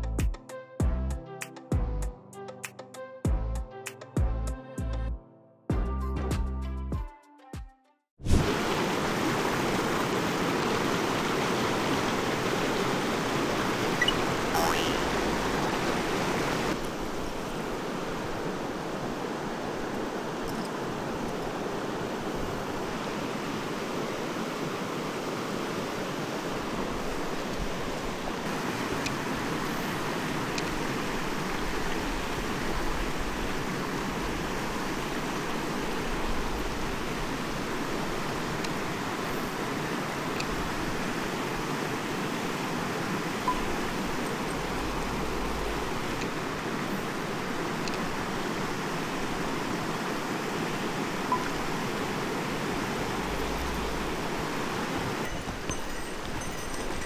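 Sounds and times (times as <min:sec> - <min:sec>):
mountain stream rushing: 0:08.2 - 0:57.0.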